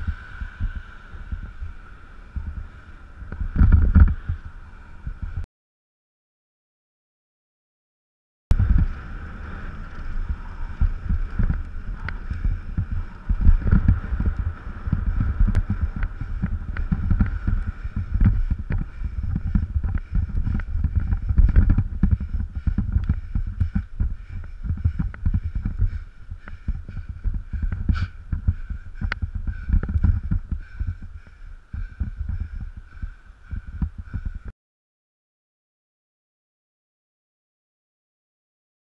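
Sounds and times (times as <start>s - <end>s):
wind buffeting microphone: 0.0s - 5.5s, 8.5s - 34.5s.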